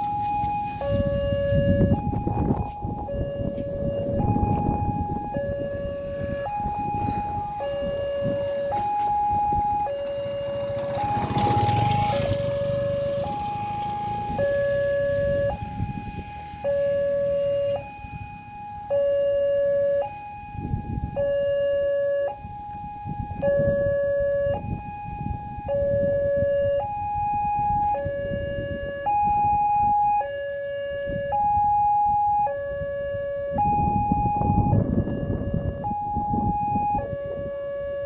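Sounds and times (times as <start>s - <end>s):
level crossing alarm two tones: 0.0s - 32.8s, 33.4s - 37.3s.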